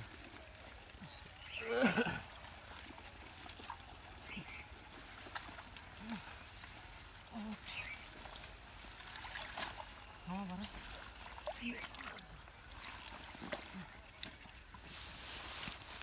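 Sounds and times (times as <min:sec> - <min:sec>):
leaves rustling in water: 0:00.0 - 0:16.0
water trickling and splashing: 0:00.0 - 0:16.0.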